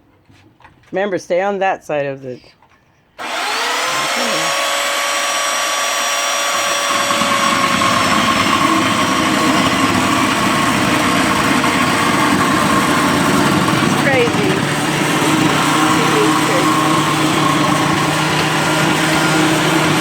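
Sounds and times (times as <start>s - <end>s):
chainsaw rasping into wood: 3.2s - 20.0s
chainsaw whining: 3.2s - 20.0s.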